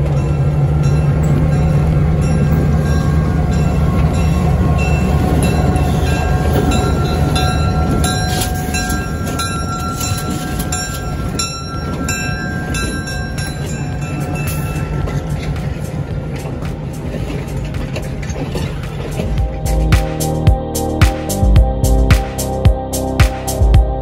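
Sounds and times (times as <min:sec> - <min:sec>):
wheels clicking over rail joints: 0:00.0 - 0:19.9
locomotive engine droning: 0:00.0 - 0:24.0.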